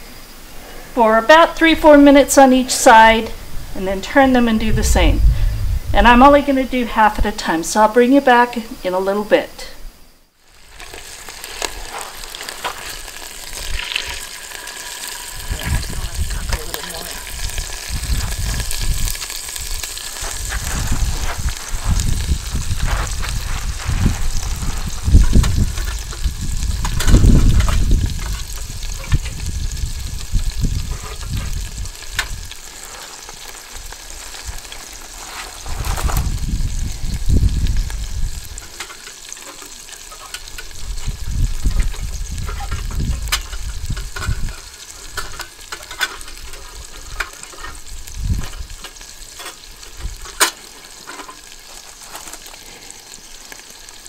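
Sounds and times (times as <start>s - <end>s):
chicken sizzling in oil: 10.4s - 54.0s.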